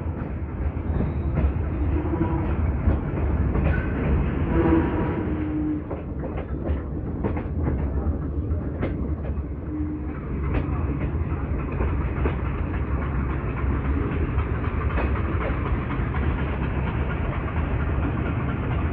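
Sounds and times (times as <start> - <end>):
diesel locomotive drone: 0.0 - 18.9
train wheels clicking over joints: 0.0 - 18.9.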